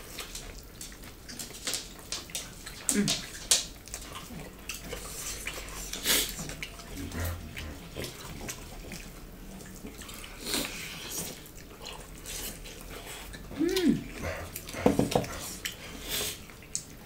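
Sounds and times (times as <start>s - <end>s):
people chewing with wet mouth sounds: 0.0s - 17.0s.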